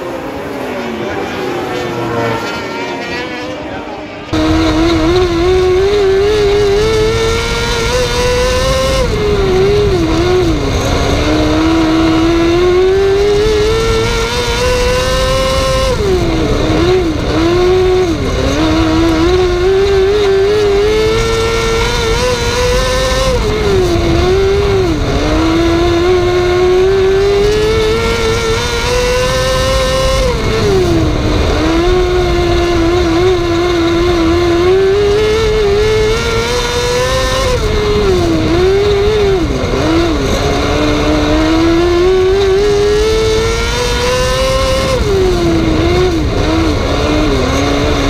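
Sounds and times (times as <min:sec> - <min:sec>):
racing car engine: 0:00.0 - 0:48.0.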